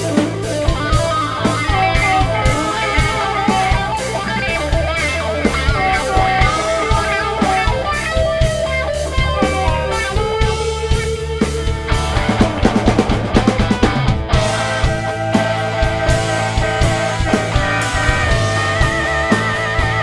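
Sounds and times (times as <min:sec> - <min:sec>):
bass guitar: 0:00.0 - 0:20.0
drum kit beat: 0:00.0 - 0:20.0
electric guitar lead lines: 0:00.0 - 0:20.0.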